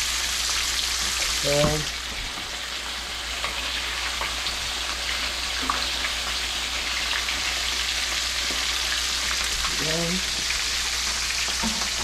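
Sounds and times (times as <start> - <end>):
fish sizzling in hot oil: 0.0 - 12.0
oil popping and crackling: 0.0 - 12.0.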